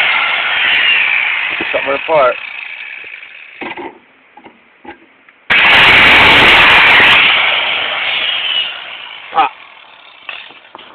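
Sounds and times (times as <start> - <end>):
angle grinder running: 0.0 - 3.6, 5.5 - 10.9.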